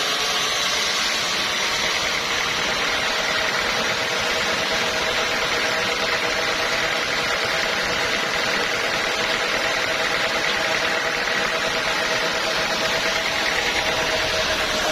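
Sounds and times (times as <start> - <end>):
sawmill machinery running: 0.0 - 14.9.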